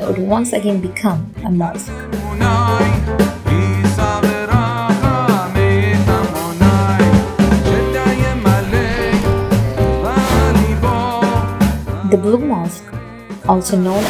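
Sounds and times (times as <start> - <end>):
bass: 0.0 - 14.0.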